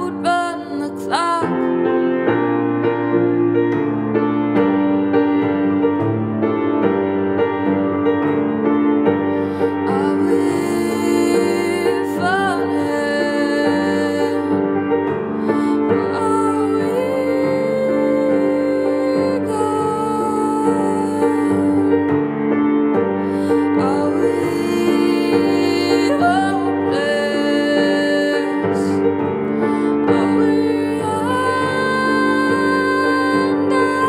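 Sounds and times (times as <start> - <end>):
slow grand piano piece: 0.0 - 34.0.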